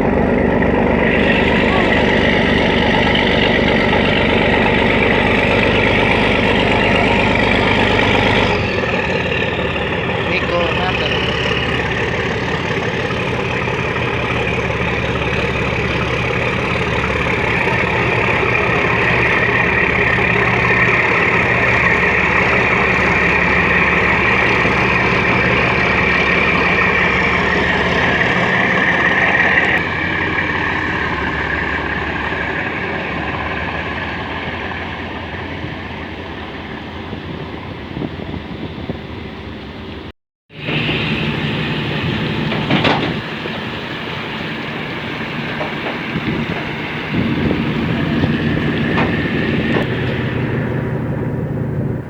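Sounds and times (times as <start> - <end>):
rushing noise: 0.0 - 39.8, 40.5 - 52.0
ferry engines droning: 0.0 - 52.0.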